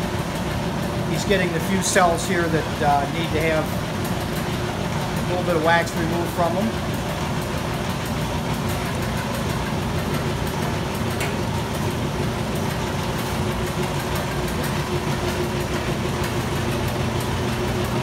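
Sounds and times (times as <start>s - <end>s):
motor hum: 0.0s - 18.0s
light mechanical clatter: 0.1s - 18.0s.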